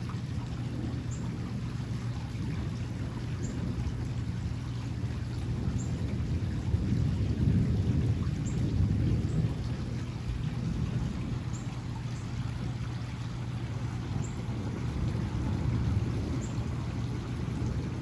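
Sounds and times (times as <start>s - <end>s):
steady rain: 0.0s - 18.0s
low rolling thunder: 0.3s - 18.0s.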